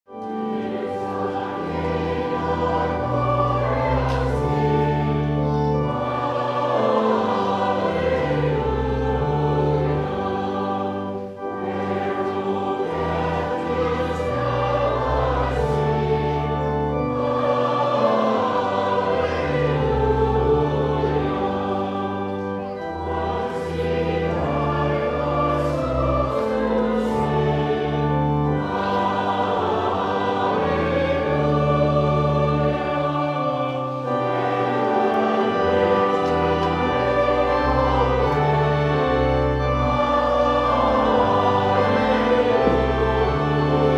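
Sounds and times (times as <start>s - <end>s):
choir singing a hymn: 0.1s - 43.9s.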